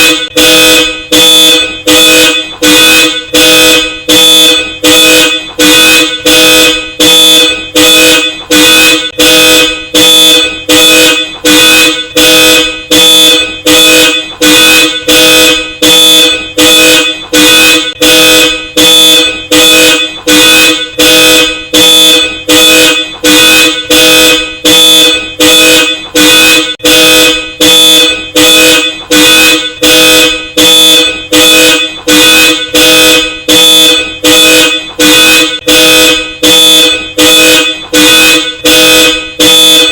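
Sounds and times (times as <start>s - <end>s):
car alarm horn honks: 0.0s - 39.9s.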